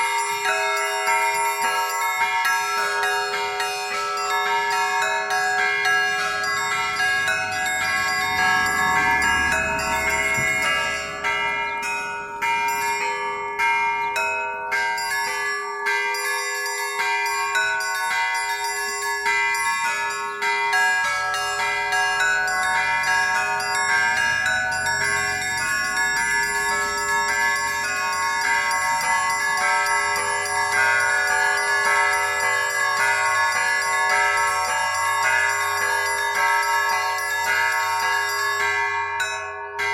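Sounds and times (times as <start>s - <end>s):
large bell ringing: 0.0s - 39.9s
small bells struck rhythmically: 0.0s - 39.9s.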